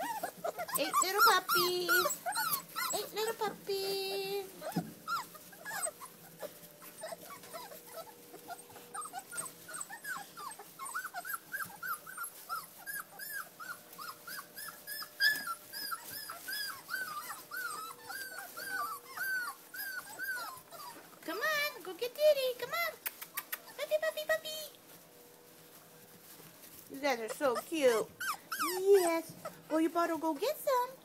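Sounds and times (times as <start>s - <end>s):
puppies squeaking and whimpering: 0.0s - 21.7s, 22.9s - 23.9s, 27.0s - 31.0s.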